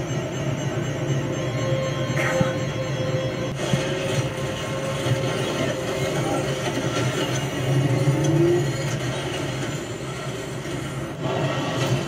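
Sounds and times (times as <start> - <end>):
heavy train rumbling: 0.0 - 12.0.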